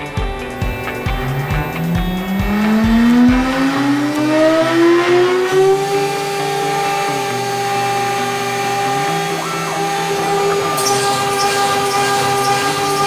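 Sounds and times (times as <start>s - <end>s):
spindle motor whine: 0.6s - 13.0s.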